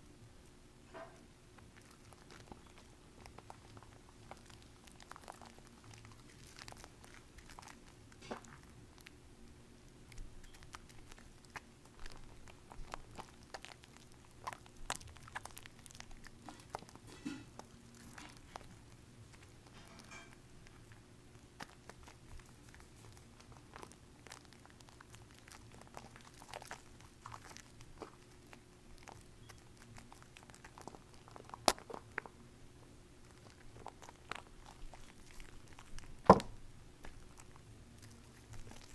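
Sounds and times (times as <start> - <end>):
soap foam crackling and squishing: 0.8 - 38.9.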